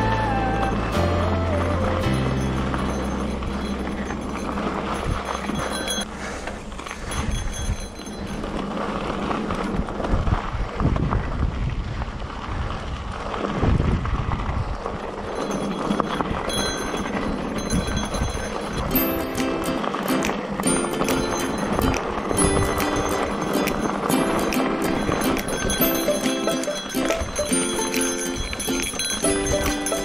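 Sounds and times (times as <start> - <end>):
bike rattling over bumps: 0.0 - 30.0
bike tyres rushing on dirt: 0.0 - 30.0.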